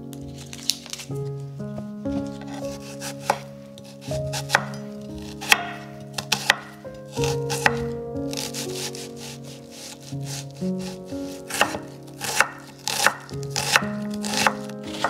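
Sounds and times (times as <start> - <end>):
background music: 0.0 - 15.0
knife chopping on wooden board: 2.4 - 15.0.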